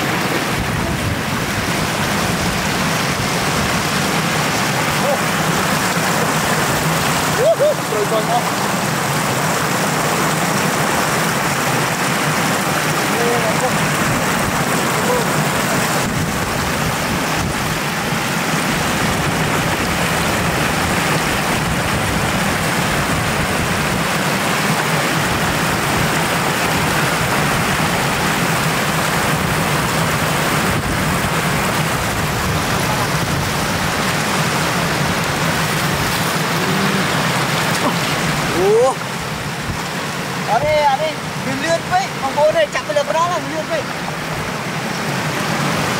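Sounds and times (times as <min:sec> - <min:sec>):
floodwater rushing over road: 0:00.0 - 0:45.9.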